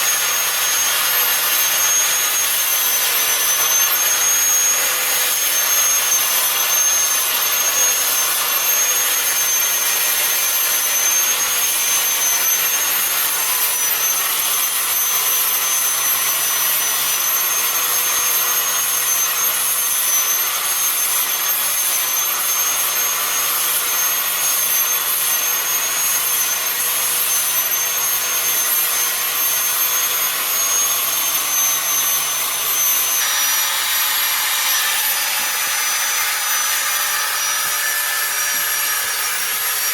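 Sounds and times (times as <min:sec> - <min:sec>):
power carving tool cutting wood: 0:00.0 - 0:39.9.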